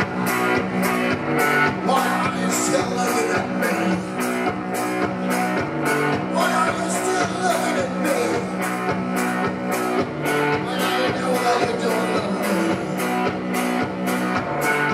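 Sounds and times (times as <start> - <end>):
drum kit steady beat: 0.0 - 14.9
electric guitar: 0.0 - 14.9.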